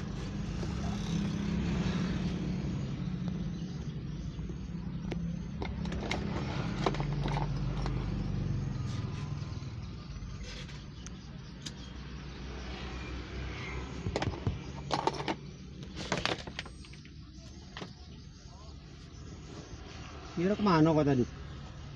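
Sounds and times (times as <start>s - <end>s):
motorcycle engine humming: 0.0s - 19.9s
street traffic: 0.0s - 21.9s.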